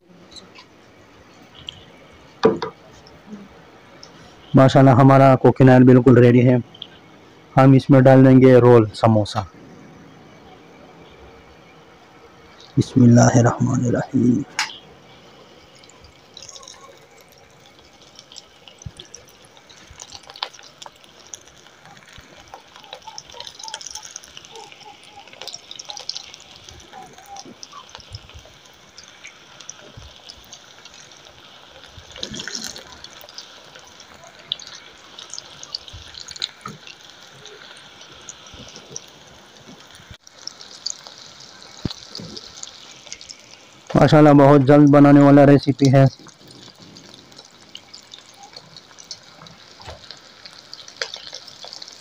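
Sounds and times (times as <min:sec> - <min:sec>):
oil sizzling and crackling: 0:00.0 - 0:52.0.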